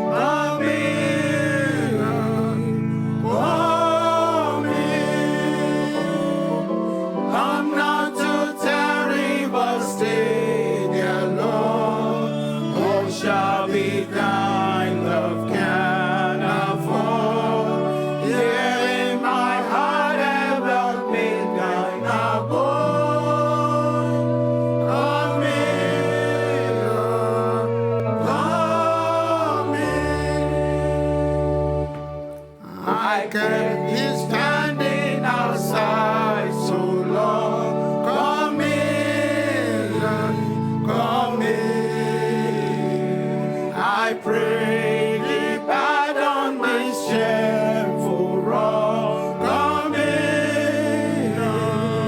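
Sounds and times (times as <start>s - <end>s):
congregation singing a hymn: 0.0s - 52.0s
sustained instrumental chords: 0.0s - 52.0s.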